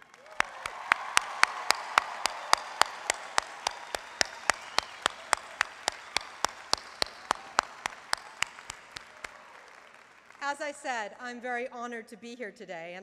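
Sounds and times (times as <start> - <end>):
loud close hand claps: 0.0 - 10.4
crowd applauding: 0.0 - 10.5.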